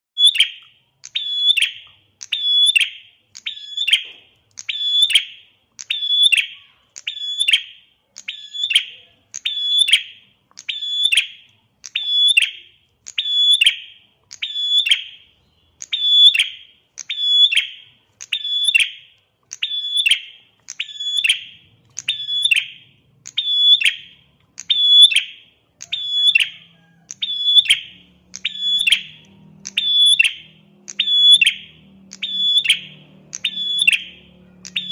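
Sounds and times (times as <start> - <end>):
bird high chirps: 0.2 - 34.9.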